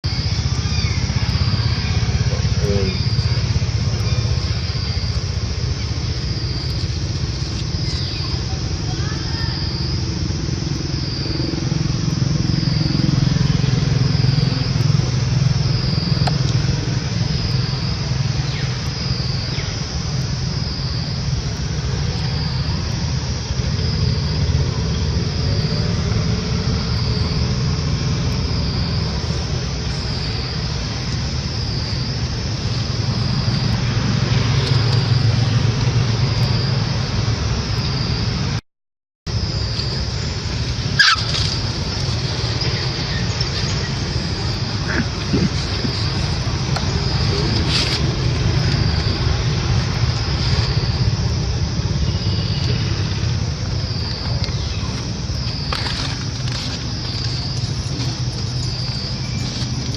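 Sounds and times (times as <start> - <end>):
steady low rumble: 0.0 - 38.6, 39.3 - 59.9.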